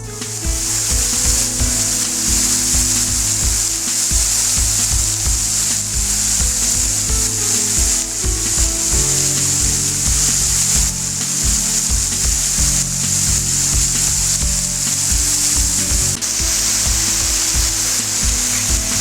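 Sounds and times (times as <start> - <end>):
background music: 0.0 - 19.0
low beat: 0.0 - 19.0
waterfall rushing: 0.0 - 19.0.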